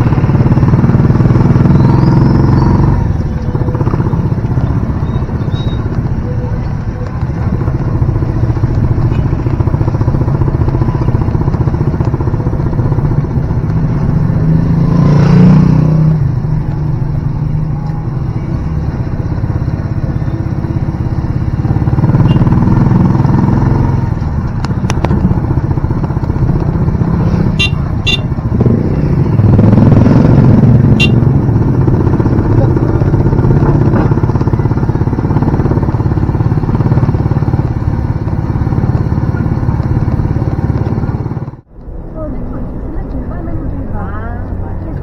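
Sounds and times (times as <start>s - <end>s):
motorcycle engine running: 0.0s - 45.0s
road noise: 0.0s - 45.0s.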